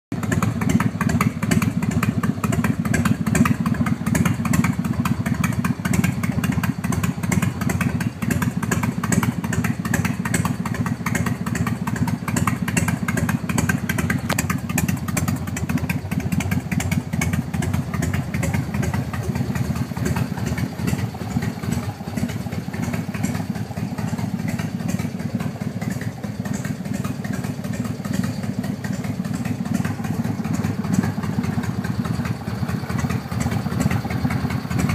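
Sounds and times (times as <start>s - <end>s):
motorcycle exhaust loping: 0.2s - 34.9s.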